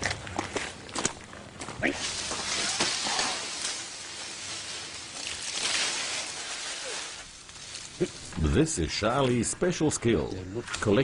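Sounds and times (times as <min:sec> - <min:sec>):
palm fronds and leaves rustling: 0:00.0 - 0:11.0.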